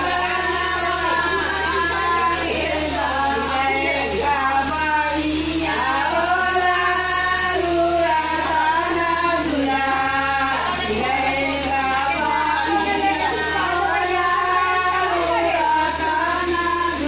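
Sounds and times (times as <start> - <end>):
women singing: 0.0 - 17.0.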